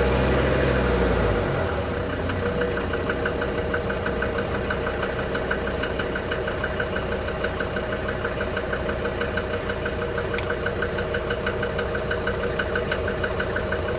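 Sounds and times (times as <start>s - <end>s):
diesel engine idling with knock: 0.0s - 13.9s.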